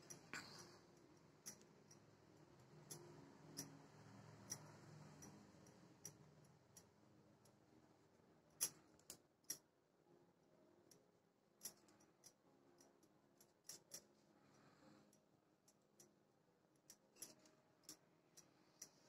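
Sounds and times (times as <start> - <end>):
faint clicks and ticks: 0.0 - 9.8, 10.4 - 19.0.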